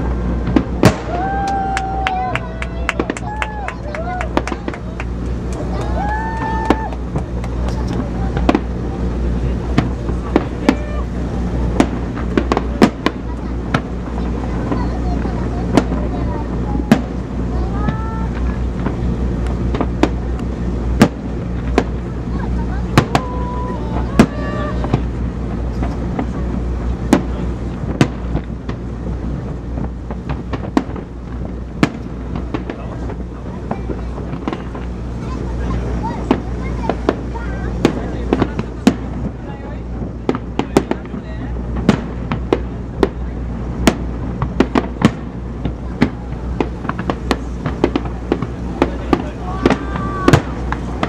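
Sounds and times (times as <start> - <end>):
low rumble: 0.0 - 51.0
steady low hum: 0.0 - 51.0
crackling firework pops: 0.4 - 8.8, 9.7 - 11.0, 11.7 - 22.1, 22.9 - 23.4, 24.0 - 35.0, 36.0 - 51.0
firework shells bursting: 0.4 - 22.2, 22.9 - 35.1, 35.8 - 51.0.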